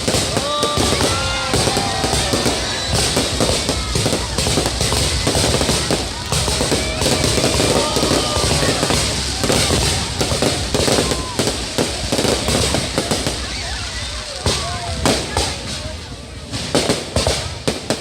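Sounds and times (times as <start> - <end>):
crowd voices and exclamations: 0.0 - 18.0
fireworks bangs and crackling: 0.0 - 18.0.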